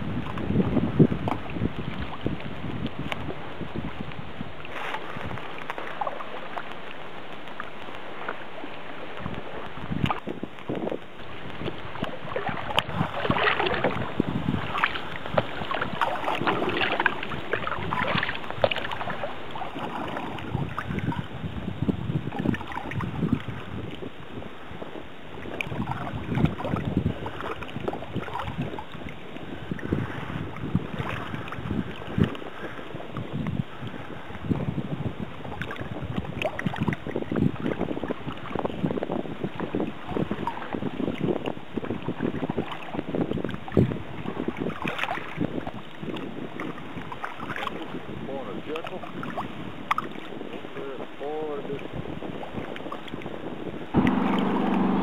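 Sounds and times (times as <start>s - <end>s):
water splashing against kayak: 0.0s - 55.0s
wind on microphone: 0.0s - 55.0s.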